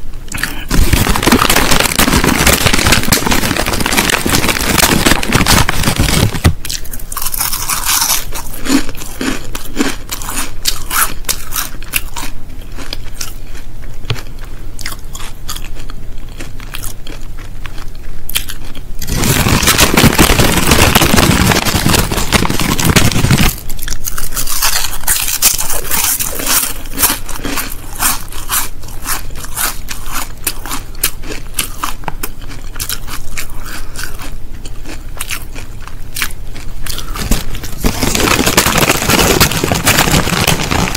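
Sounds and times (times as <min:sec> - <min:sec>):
crisps crunching: 0:00.3 - 0:40.9
crisp packet crinkling: 0:00.4 - 0:14.2, 0:15.7 - 0:34.3, 0:36.8 - 0:40.9.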